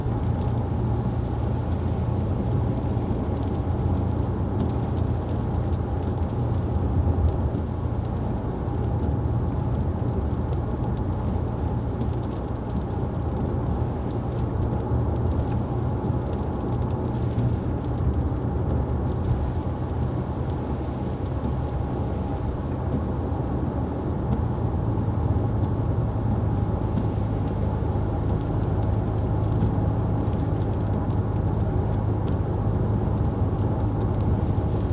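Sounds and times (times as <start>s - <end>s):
car engine and tyres rumbling: 0.0s - 34.9s.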